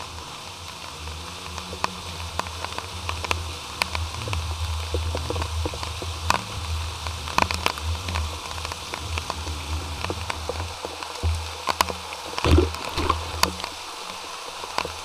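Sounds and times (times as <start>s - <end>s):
crackle of scattered clicks: 0.0s - 15.0s
low steady underwater hum: 0.0s - 15.0s.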